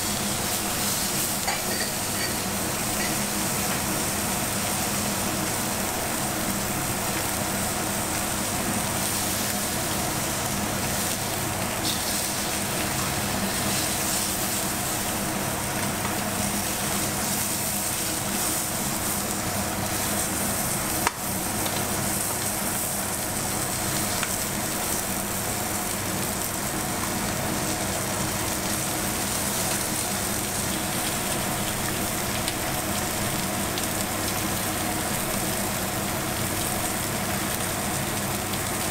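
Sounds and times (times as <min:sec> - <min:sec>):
beef sizzling in a frying pan: 0:00.0 - 0:38.9.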